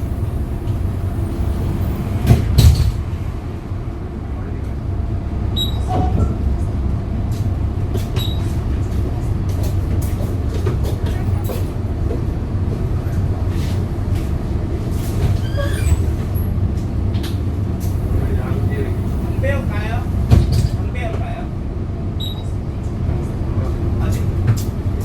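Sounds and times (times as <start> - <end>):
bus engine drone: 0.0 - 25.0
rattles and clicks from bus body: 0.0 - 25.0.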